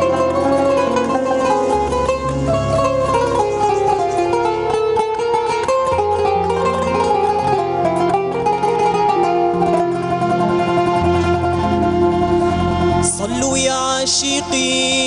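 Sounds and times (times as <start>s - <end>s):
held bass line: 0.0s - 15.0s
plucked string melody: 0.0s - 15.0s.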